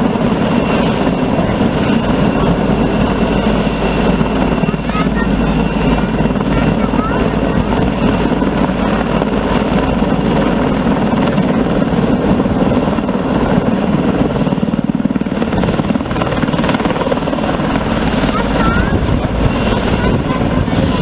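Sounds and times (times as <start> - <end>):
helicopter rotor beating: 0.0 - 21.0
helicopter turbine engine noise: 0.0 - 21.0.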